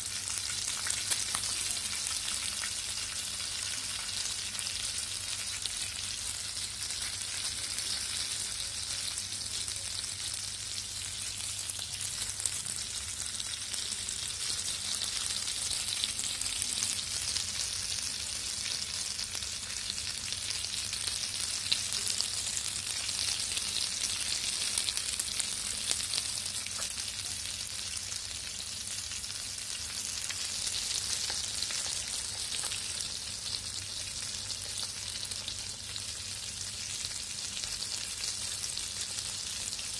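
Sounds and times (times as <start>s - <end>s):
oil sizzling and crackling: 0.0s - 39.9s.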